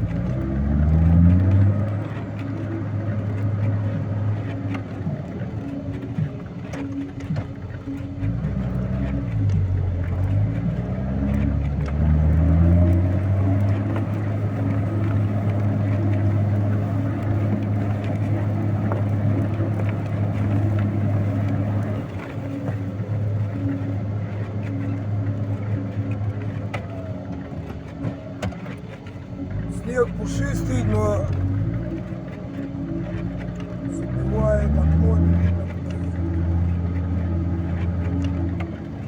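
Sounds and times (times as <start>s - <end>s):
vehicle engine revving: 0.0s - 4.2s, 8.1s - 26.5s, 29.4s - 39.0s.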